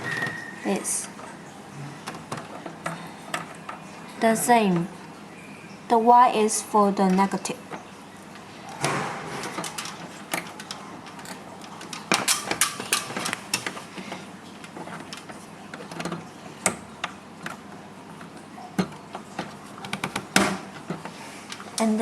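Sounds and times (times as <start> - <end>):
clicks and taps of handling wires: 1.1 - 5.2, 7.0 - 22.0.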